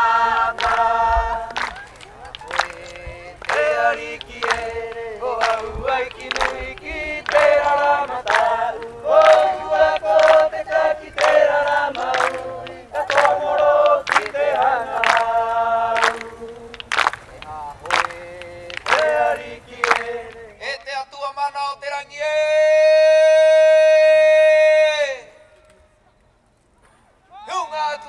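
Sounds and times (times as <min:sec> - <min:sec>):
group chanting unaccompanied: 0:00.0 - 0:25.4.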